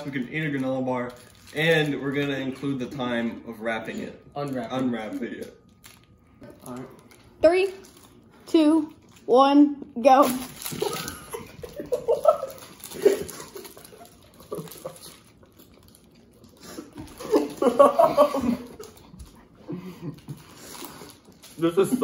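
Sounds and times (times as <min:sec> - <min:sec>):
plastic wrappers crinkling: 0:00.0 - 0:09.3, 0:10.1 - 0:19.4, 0:20.0 - 0:22.0.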